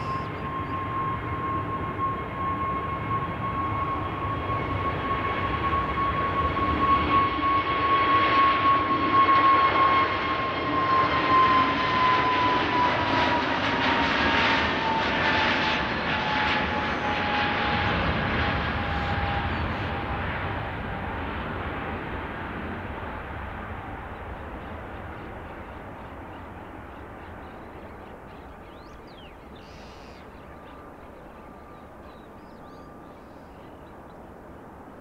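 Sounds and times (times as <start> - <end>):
jet engines passing: 0.0 - 35.0.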